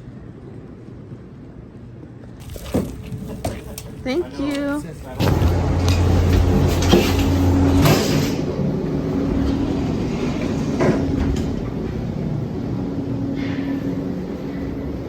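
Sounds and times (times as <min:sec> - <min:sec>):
vehicle rumble and hum: 0:02.3 - 0:15.0.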